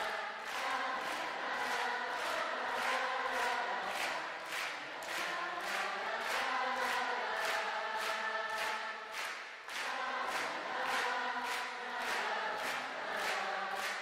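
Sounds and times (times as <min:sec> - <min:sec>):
crowd singing in unison: 0:00.0 - 0:14.0
rhythmic hand-clapping: 0:00.0 - 0:14.0.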